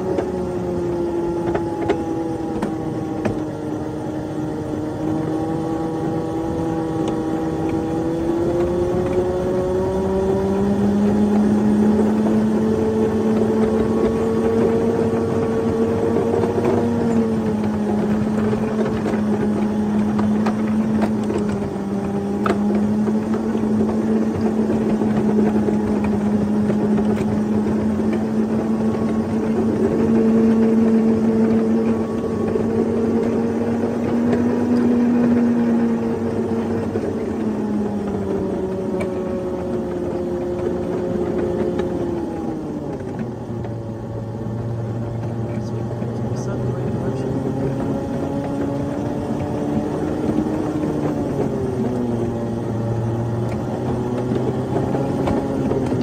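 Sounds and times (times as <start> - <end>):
locomotive motor drone: 0.0 - 56.0
steel wheels rumbling on rail: 0.0 - 56.0.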